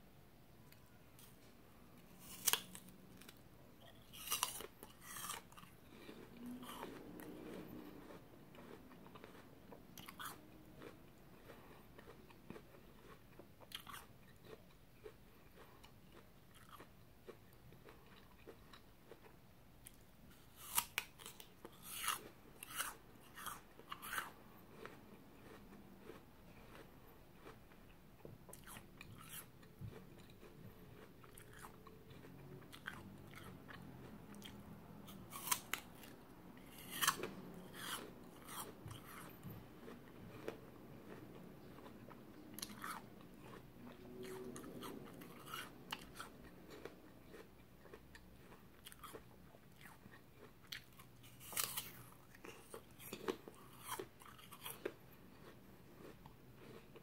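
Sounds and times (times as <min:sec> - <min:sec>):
apple crunching: 0:00.7 - 0:57.0.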